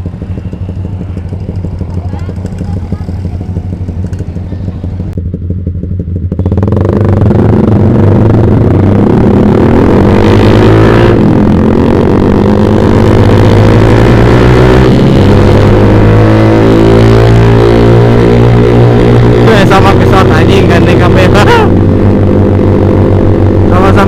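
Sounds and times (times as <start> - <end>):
motorcycle engine accelerating hard: 0.0 - 24.0.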